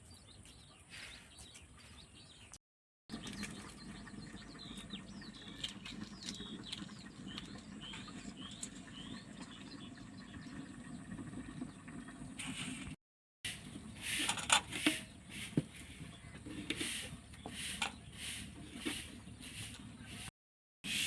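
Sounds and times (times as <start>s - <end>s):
small birds chirping: 0.0s - 12.3s, 13.5s - 20.3s.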